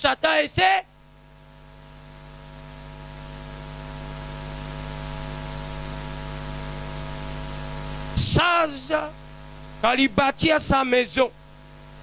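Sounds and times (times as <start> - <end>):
electrical mains hum: 0.0 - 12.0
sound system hiss: 1.6 - 12.0.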